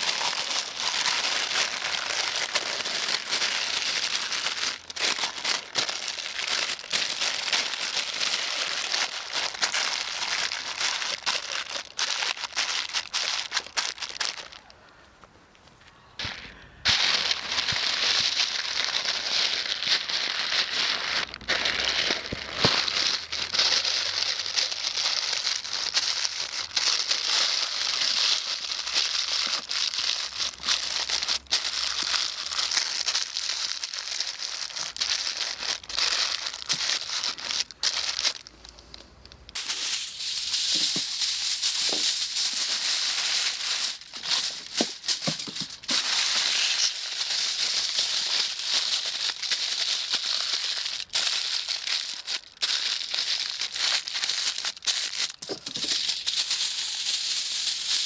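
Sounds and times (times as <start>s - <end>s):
foil-wrapped food crackling on embers: 0.0s - 15.1s, 16.9s - 58.0s.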